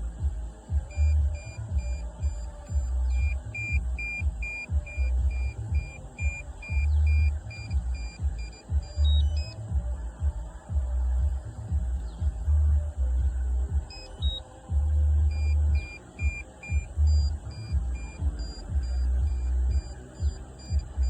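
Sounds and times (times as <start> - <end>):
low rumbling thuds: 0.0 - 21.0.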